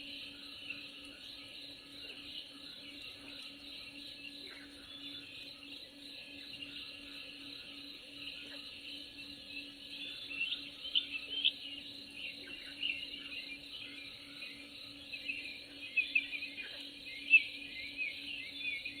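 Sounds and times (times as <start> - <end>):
birds chirping: 0.0 - 19.0
insects trilling: 0.0 - 19.0.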